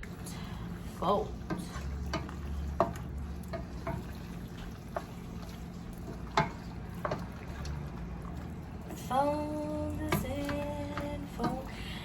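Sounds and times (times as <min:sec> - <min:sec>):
wet stirring of pasta in sauce: 0:00.0 - 0:11.8
low steady hum: 0:00.0 - 0:12.0
utensil clacking against pan: 0:01.0 - 0:11.8.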